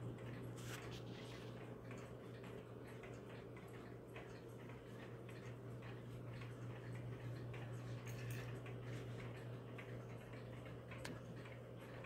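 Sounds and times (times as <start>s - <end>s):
steady low hum: 0.0s - 12.0s
wall clock ticking: 1.5s - 12.0s.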